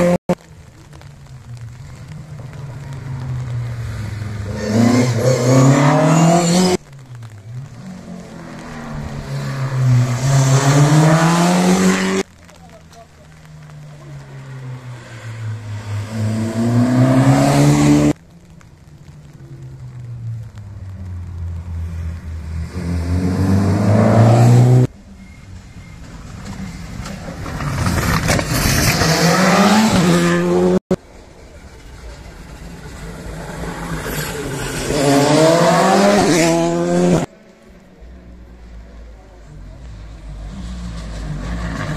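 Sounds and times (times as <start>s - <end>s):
rally cars at full throttle: 0.0s - 41.9s.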